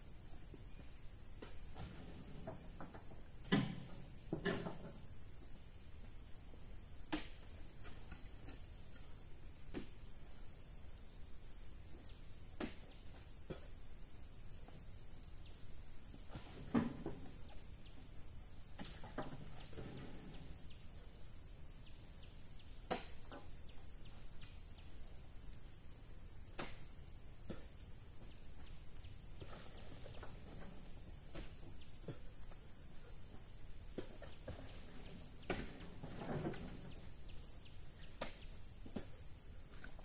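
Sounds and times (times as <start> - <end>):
insects droning: 0.0 - 40.0.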